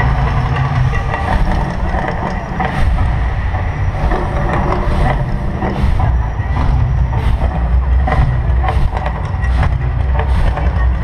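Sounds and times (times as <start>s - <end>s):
deep steady rumble: 0.0s - 11.0s
whooshing flame surges: 1.1s - 11.0s.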